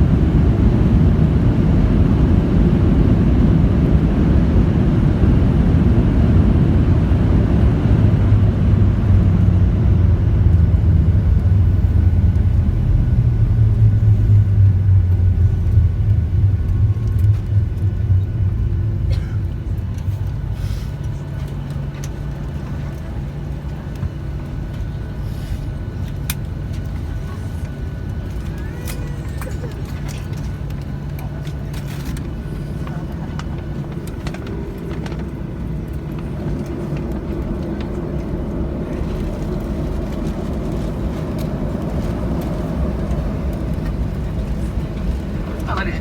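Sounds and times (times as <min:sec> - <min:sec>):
deep aircraft hum: 0:00.0 - 0:46.0
rumble of wheels and engines: 0:00.0 - 0:46.0.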